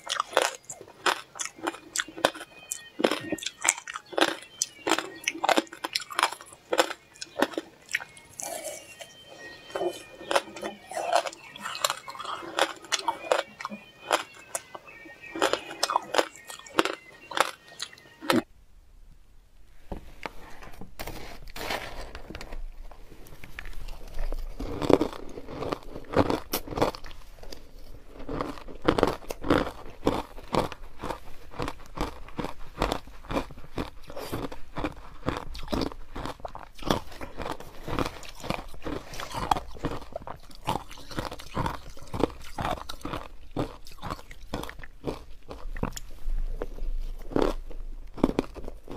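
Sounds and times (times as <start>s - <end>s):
ice being chewed: 0.0s - 18.5s, 23.2s - 48.9s.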